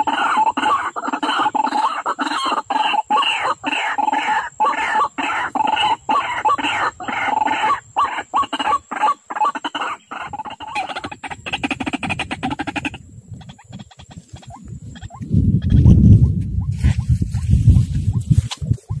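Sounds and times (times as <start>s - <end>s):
waterhen harsh calls: 0.0s - 15.8s.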